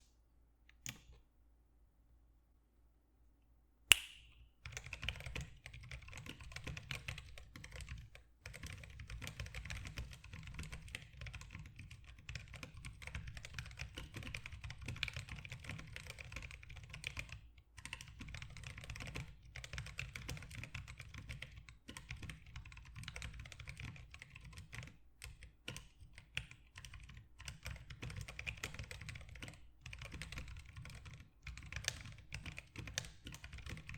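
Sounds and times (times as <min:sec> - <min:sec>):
fast keyboard typing: 0:04.7 - 0:33.9.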